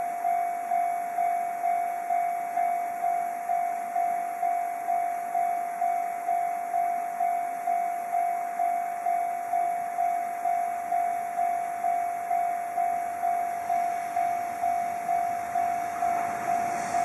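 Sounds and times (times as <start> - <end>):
level crossing bell ringing: 0.0 - 17.0.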